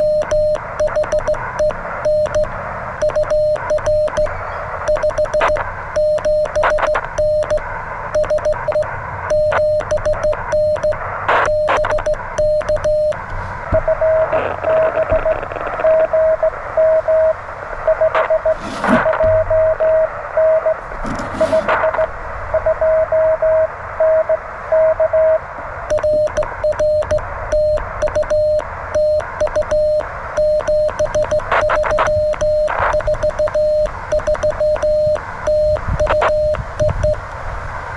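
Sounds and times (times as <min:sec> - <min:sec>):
short bursts of noise: 0:00.0 - 0:23.0, 0:25.9 - 0:37.3
morse code tone: 0:00.0 - 0:37.2
receiver hiss: 0:00.0 - 0:37.9.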